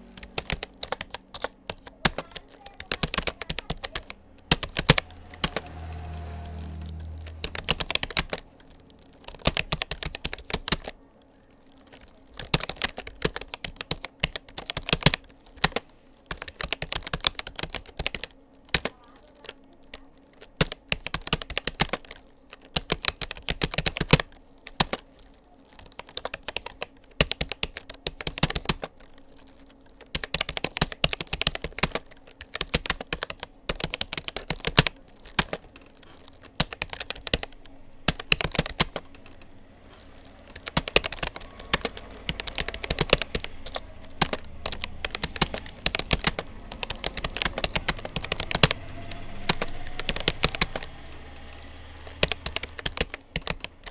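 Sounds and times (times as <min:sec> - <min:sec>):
fast keyboard typing: 0:00.0 - 0:53.9.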